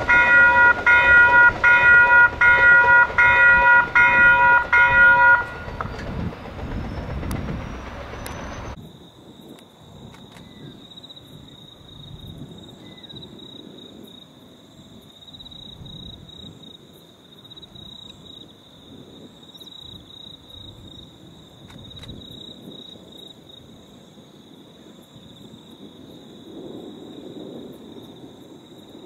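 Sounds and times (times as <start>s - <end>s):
crickets chirring: 0.0s - 29.0s
distant freight train rumble: 0.0s - 29.0s.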